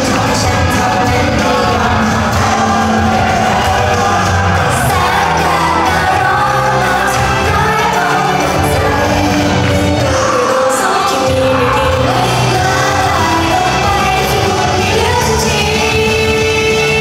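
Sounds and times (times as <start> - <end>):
people singing: 0.0 - 17.0
pop music with steady beat: 0.0 - 17.0.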